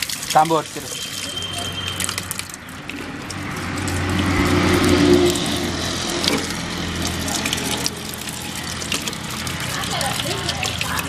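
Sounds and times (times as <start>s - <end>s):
running water splashing into bucket: 0.0s - 11.0s.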